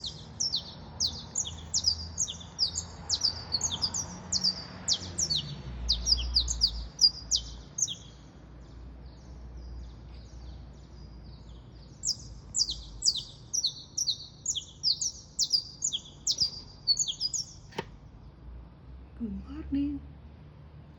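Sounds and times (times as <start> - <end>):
songbird chirping: 0.0 - 19.4.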